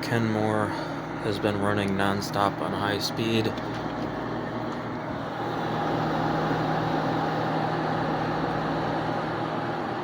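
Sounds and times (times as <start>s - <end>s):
window air conditioner running: 0.0s - 10.0s.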